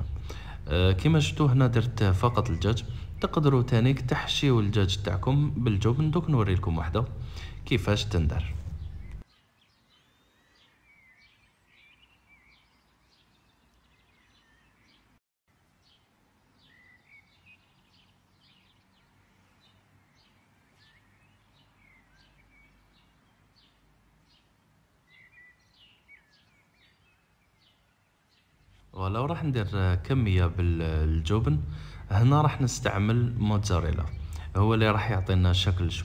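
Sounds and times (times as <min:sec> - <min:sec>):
bird chirps: 0:00.0 - 0:15.2, 0:15.8 - 0:36.0.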